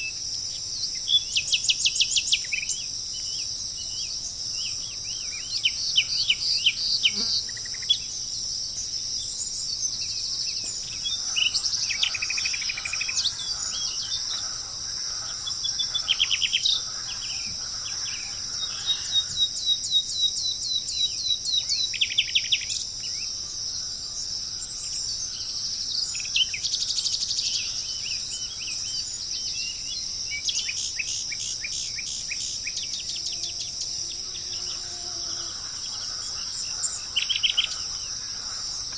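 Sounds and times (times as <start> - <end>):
high insect drone: 0.0 - 38.9
songbirds chirping and trilling: 0.0 - 38.9.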